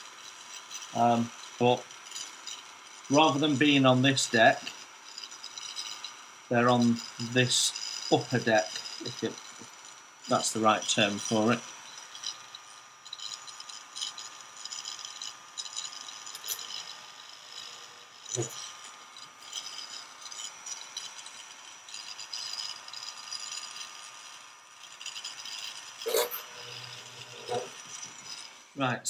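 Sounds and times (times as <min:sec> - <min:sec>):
drill bit scratchy rattle: 0:00.0 - 0:29.0
electric mini drill whine: 0:00.0 - 0:29.0.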